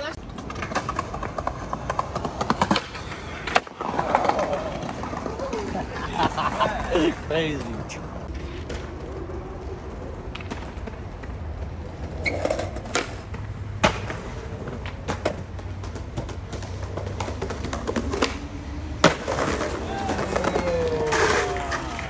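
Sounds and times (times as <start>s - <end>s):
skateboard clacks: 0.0s - 22.0s
skateboard wheels rolling on concrete: 0.0s - 22.0s.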